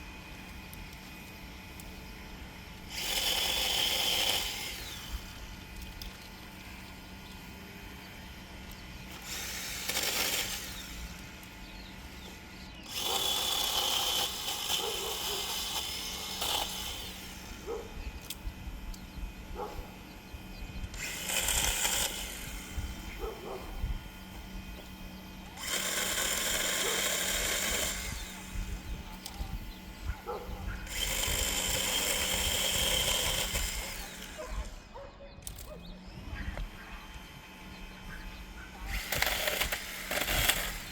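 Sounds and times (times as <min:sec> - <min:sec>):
electric chainsaw running: 0:00.0 - 0:40.9.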